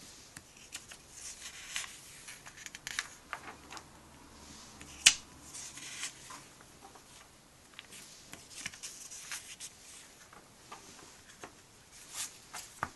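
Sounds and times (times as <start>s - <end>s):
paper pages rustling and flapping: 0.5s - 3.9s, 4.9s - 12.9s.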